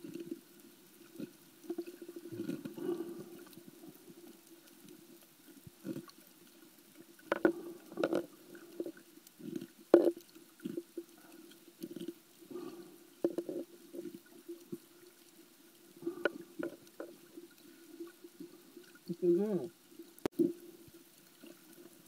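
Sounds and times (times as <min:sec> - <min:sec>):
underwater gurgling and sloshing: 0:00.0 - 0:22.0.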